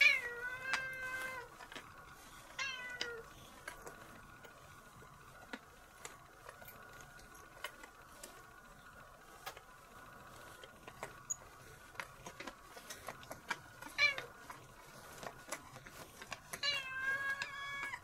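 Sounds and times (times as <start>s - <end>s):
faint high hum: 0.0s - 18.0s
lint roller crackling on fur: 0.0s - 18.0s.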